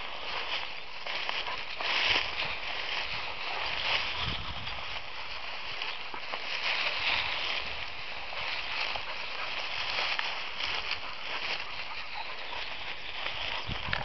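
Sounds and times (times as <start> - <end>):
dry stems crackling: 0.0 - 14.0
long grass rustling and swishing: 0.0 - 14.0.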